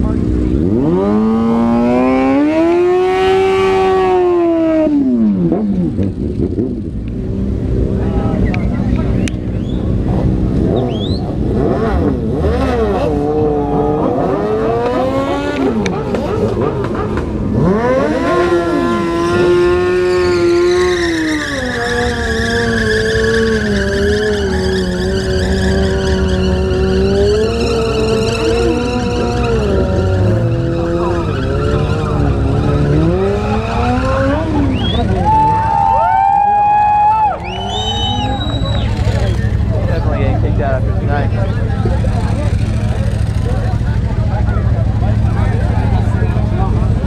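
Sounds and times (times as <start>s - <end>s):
motorcycle engine revving: 0.0s - 35.7s, 37.6s - 47.0s.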